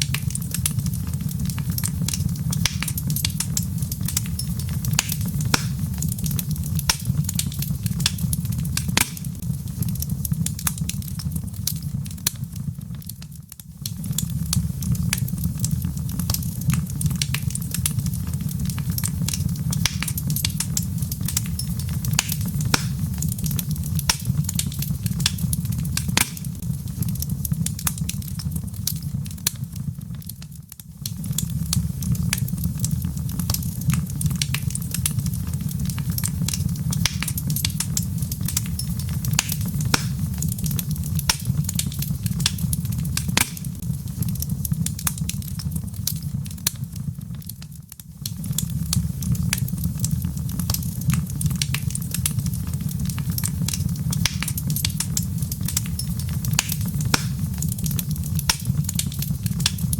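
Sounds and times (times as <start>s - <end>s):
fire flame rumble: 0.0s - 59.9s
logs crackling and popping: 0.0s - 59.9s.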